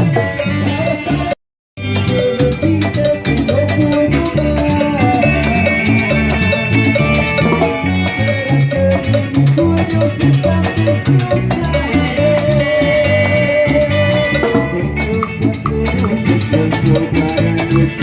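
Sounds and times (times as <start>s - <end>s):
live band playing dance music: 0.0s - 18.0s.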